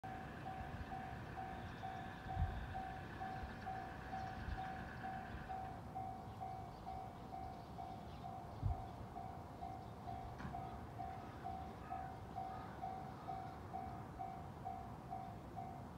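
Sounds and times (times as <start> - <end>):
level crossing alarm bell: 0.1 - 15.9.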